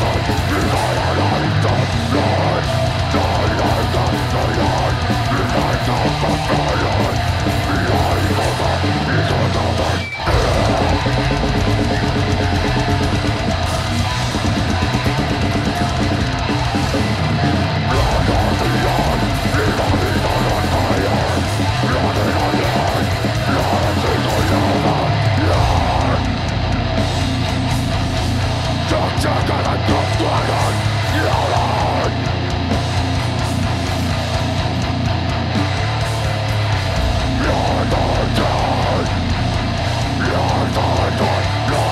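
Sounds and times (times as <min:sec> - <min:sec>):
distorted electric guitar: 0:00.0 - 0:41.9
pounding drum kit: 0:00.0 - 0:41.9.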